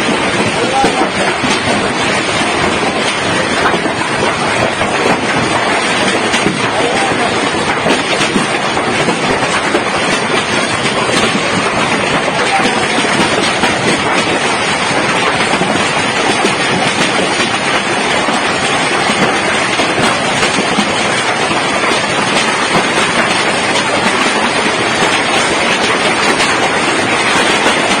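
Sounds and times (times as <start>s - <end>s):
hail and rain clattering: 0.0s - 28.0s.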